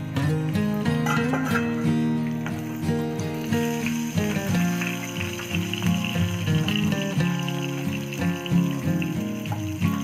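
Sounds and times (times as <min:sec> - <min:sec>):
faint sizzle of frying: 0:00.0 - 0:10.0
instrumental background music: 0:00.0 - 0:10.0.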